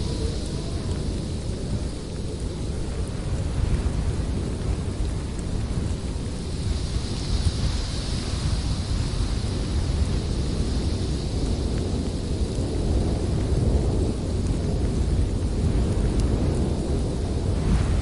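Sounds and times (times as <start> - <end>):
blizzard wind blowing hard: 0.0 - 18.0.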